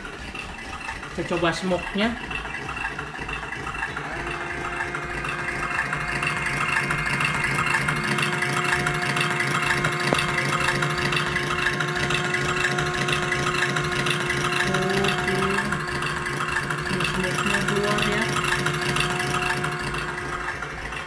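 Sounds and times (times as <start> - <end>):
steady hum: 0.0 - 21.0
toy engine idling rumble: 0.0 - 21.0.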